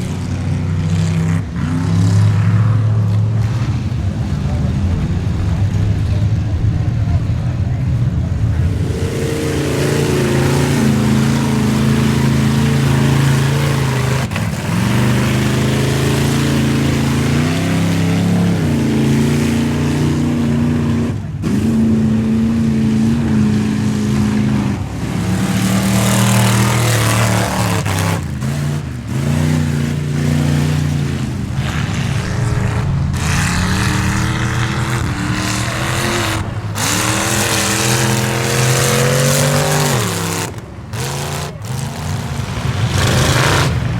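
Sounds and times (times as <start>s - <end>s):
truck engines revving: 0.0s - 43.9s.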